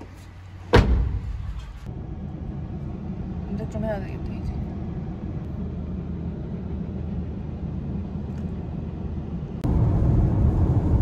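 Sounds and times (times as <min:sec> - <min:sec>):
car road rumble inside cabin: 0:00.0 - 0:11.0.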